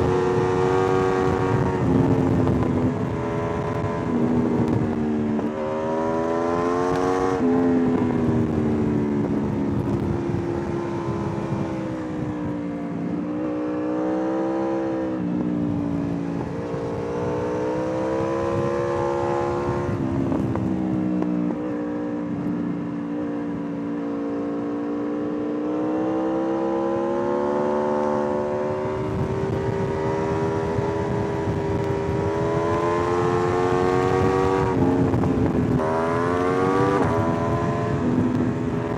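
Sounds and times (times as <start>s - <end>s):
motorcycle engine revving: 0.0s - 38.9s
wind noise: 0.0s - 38.9s.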